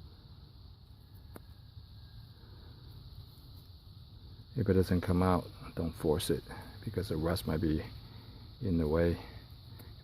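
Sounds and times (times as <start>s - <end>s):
faint background hum: 0.0s - 10.0s.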